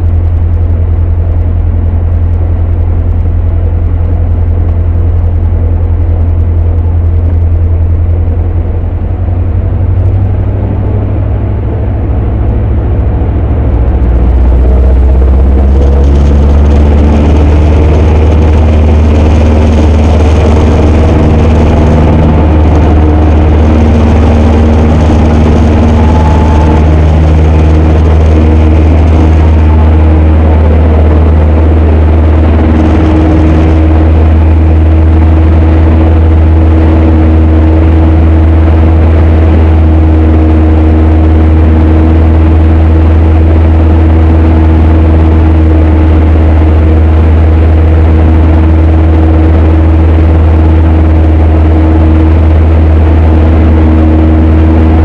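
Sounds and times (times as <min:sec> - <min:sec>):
propeller engine drone: 0:00.0 - 0:55.0.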